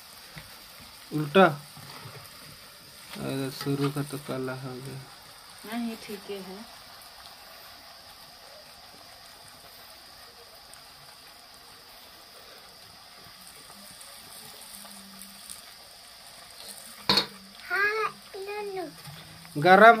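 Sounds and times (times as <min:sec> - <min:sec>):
hot oil sizzling: 0:00.0 - 0:20.0.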